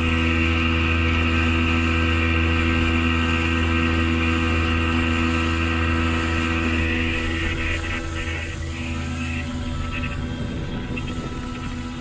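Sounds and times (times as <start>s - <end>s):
outboard motor running: 0.0s - 12.0s
water rushing past hull: 0.0s - 12.0s.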